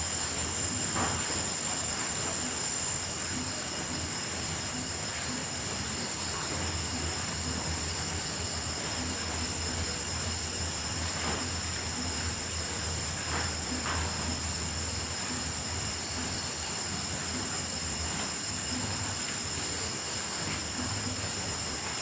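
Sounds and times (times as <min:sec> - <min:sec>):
crickets and grasshoppers chorus: 0:00.0 - 0:22.0.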